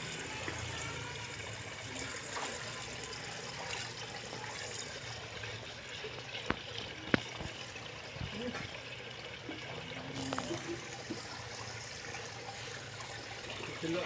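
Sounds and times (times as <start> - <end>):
trickle of running water: 0.0 - 14.0.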